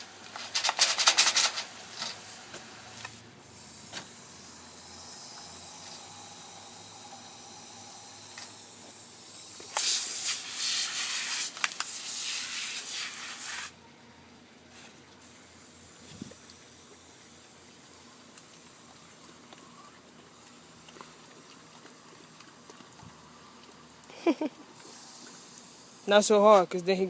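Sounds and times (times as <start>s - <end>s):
water spraying from a hose: 0.0s - 13.8s, 14.7s - 27.0s.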